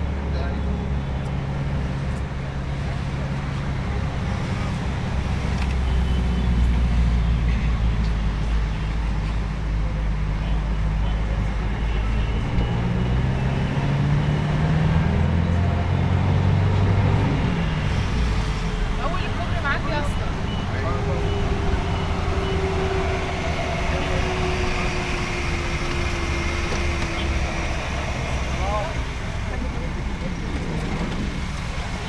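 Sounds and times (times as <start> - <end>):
vehicle engine and road noise: 0.0 - 32.0.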